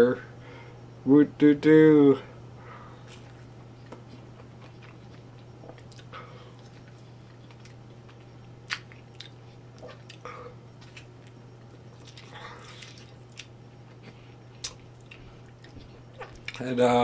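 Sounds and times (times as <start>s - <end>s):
man chewing: 3.0s - 16.6s.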